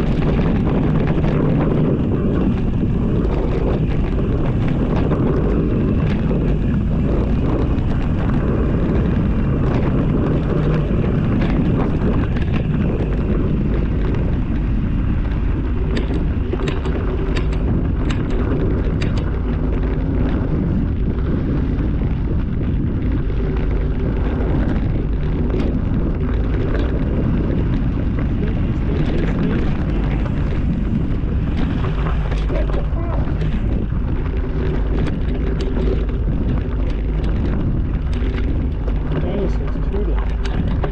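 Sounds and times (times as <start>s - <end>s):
sharp clicks and rattles: 0.0s - 40.9s
wind buffeting microphone: 0.0s - 40.9s.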